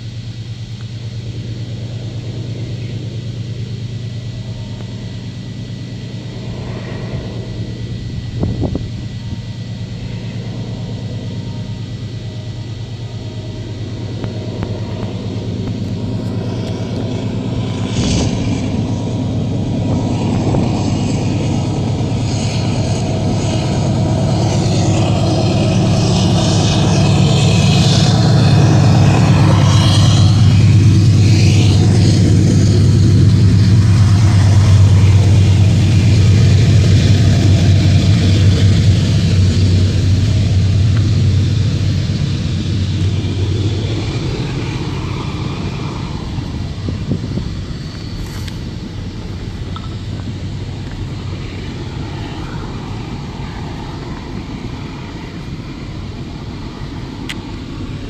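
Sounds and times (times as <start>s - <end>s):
locomotive engine humming: 0.0s - 58.0s
train rolling rumble: 0.0s - 58.0s.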